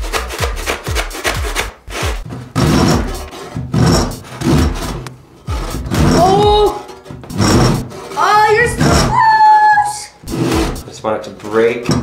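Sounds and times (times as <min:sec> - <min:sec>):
hand saw cutting foil ball: 0:00.0 - 0:09.4, 0:10.2 - 0:10.9.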